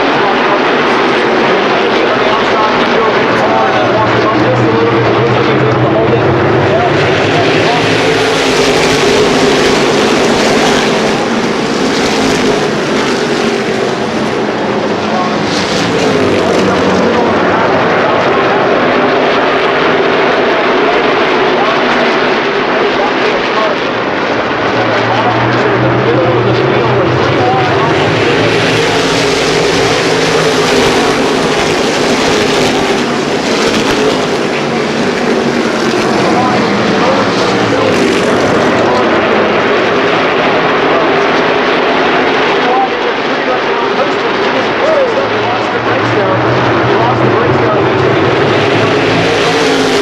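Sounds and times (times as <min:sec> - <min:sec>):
race car engines droning: 0:00.0 - 0:50.0.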